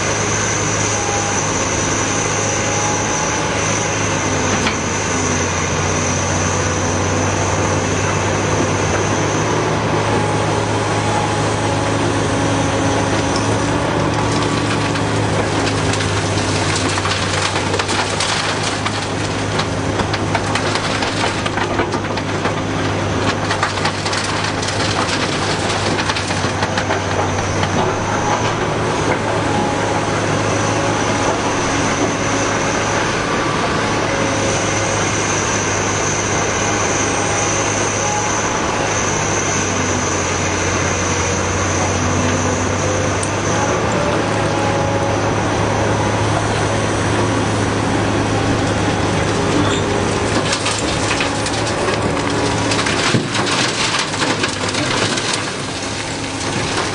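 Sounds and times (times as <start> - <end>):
excavator diesel engine humming: 0.0 - 56.9.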